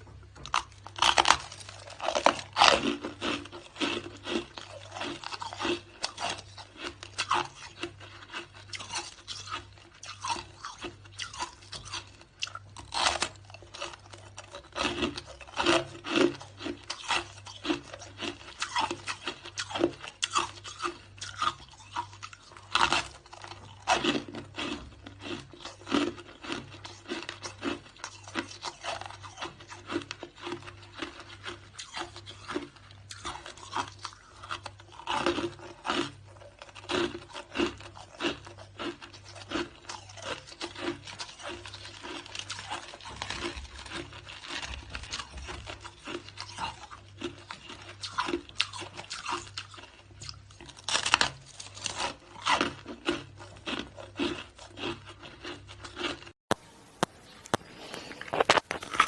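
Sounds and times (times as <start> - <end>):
shaved ice crunching when chewed: 0.0 - 59.0.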